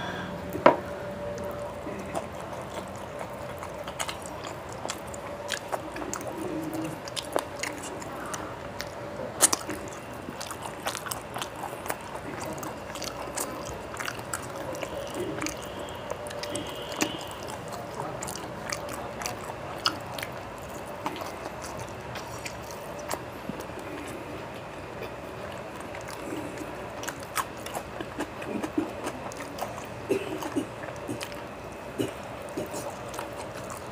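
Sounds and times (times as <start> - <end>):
person chewing food: 0.0 - 33.9
mouth clicks and smacks: 2.1 - 33.9.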